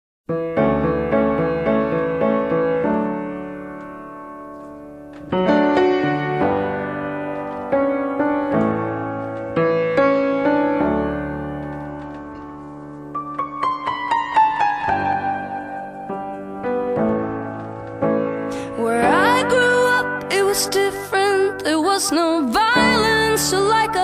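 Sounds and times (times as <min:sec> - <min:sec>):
piano chords: 0:00.3 - 0:24.0.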